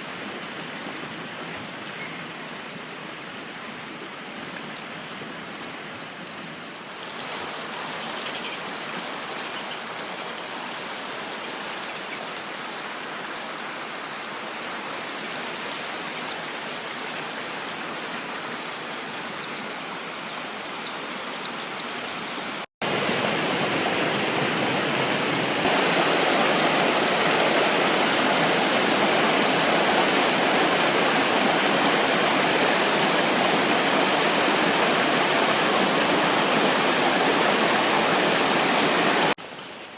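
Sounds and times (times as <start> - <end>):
river water rushing: 6.8 - 39.5.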